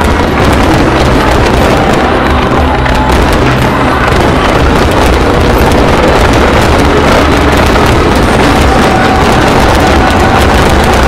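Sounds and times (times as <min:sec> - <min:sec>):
fireworks bangs and crackle: 0:00.0 - 0:11.0
music playing: 0:00.0 - 0:11.0.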